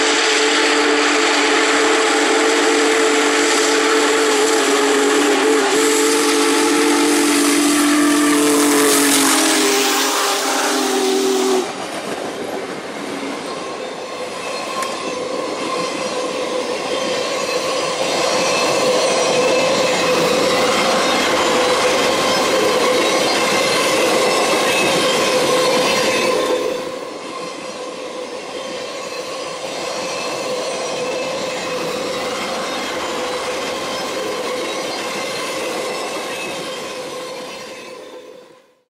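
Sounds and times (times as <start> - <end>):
train wheels on rail: 0.0 - 38.9.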